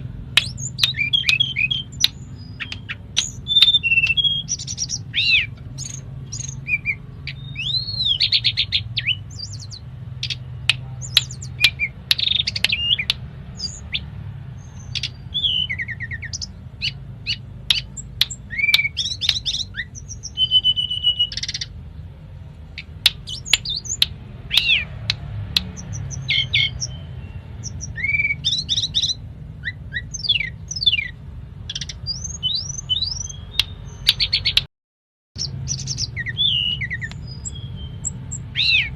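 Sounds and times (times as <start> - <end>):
bird singing varied song: 0.0 - 34.7, 35.4 - 38.9.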